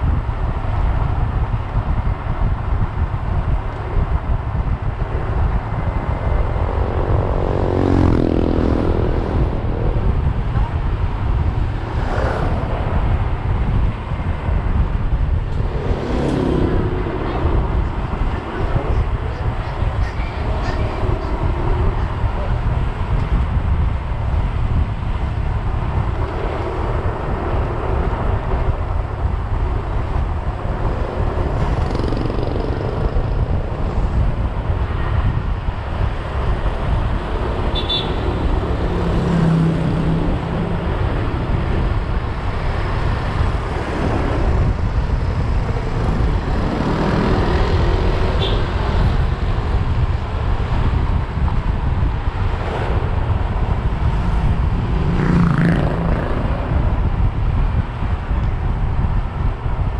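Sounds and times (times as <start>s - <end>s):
road and tyre noise: 0.0s - 59.9s
wind buffeting microphone: 0.0s - 59.9s.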